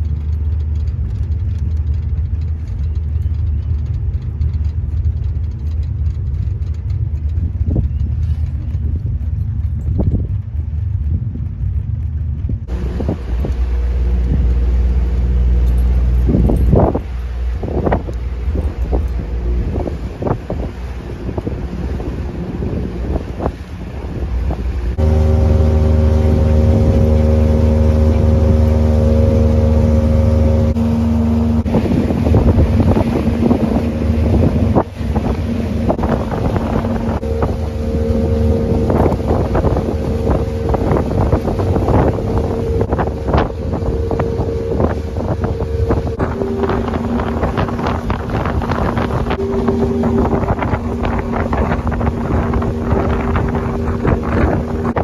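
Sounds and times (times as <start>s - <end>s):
boat motor running: 0.0s - 55.0s
wind buffeting microphone: 0.0s - 55.0s.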